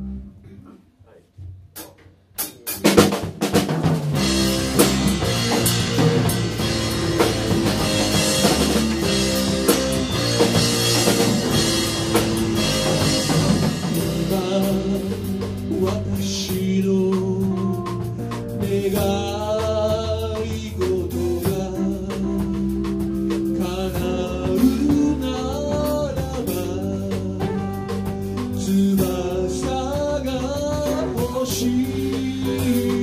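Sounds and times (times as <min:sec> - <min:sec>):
drum kit: 0:00.0 - 0:33.0
band playing instrumental: 0:02.4 - 0:33.0.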